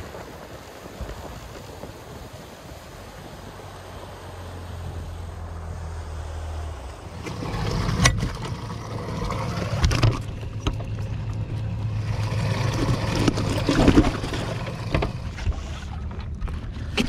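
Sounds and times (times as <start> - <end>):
outboard motor running: 0.0 - 17.0
rush of water and wind: 0.0 - 17.0.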